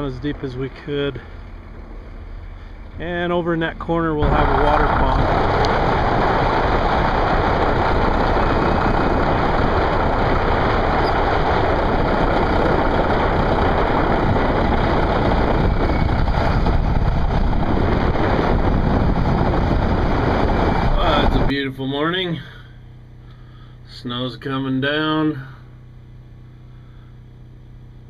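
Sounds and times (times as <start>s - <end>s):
heavy diesel engine rumbling: 0.0s - 27.4s.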